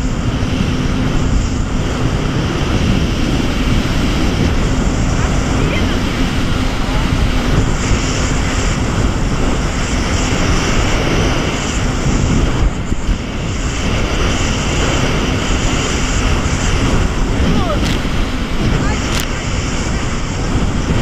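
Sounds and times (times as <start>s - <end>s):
jet ski engine drone: 0.0s - 21.0s
rushing water and spray: 0.0s - 21.0s.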